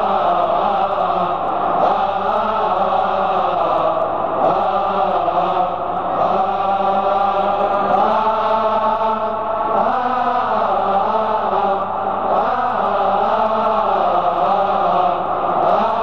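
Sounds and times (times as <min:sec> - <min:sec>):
male choir chanting a hymn: 0:00.0 - 0:16.0.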